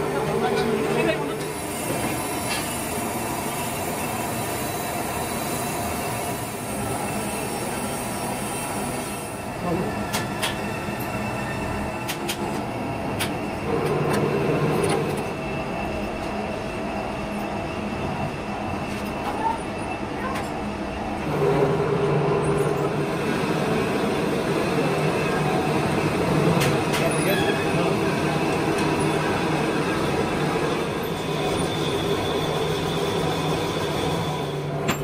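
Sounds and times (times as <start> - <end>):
factory machinery noise: 0.0 - 35.0.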